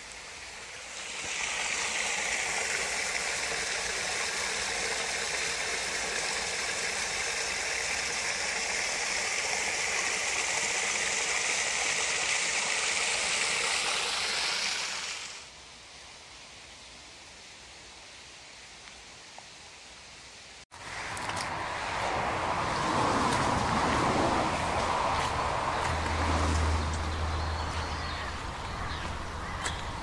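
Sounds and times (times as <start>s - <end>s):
water rushing: 0.0s - 15.5s, 20.8s - 29.4s.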